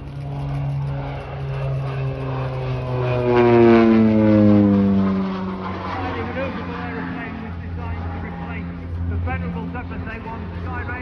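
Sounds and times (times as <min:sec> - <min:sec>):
turboprop aircraft flying past: 0:00.0 - 0:11.0.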